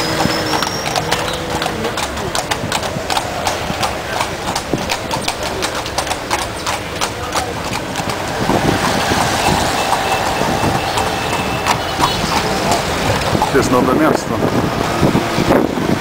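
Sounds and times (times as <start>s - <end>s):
horse hooves clip-clopping on road: 0.0s - 16.0s
steady rushing noise: 0.0s - 16.0s.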